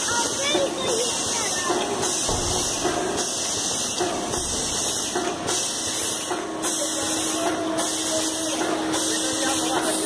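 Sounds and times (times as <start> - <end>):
pneumatic air hiss: 0.0 - 10.0.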